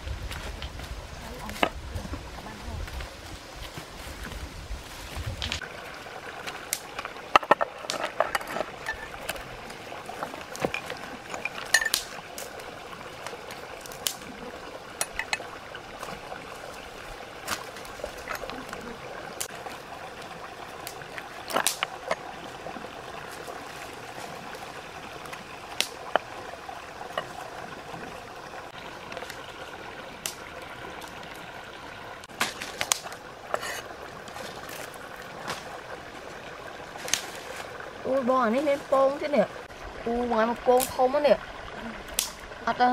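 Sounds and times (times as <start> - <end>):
stream babbling: 0.0 - 42.9.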